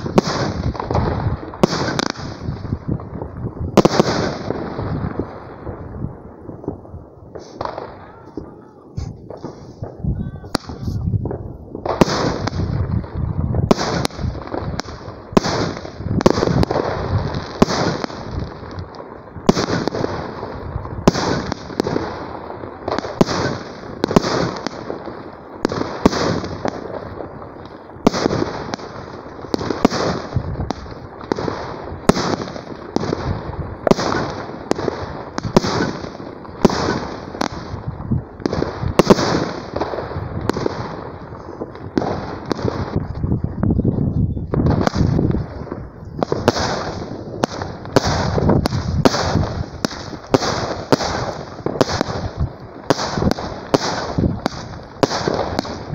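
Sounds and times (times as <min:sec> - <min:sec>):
fireworks bangs: 0:00.0 - 0:55.9.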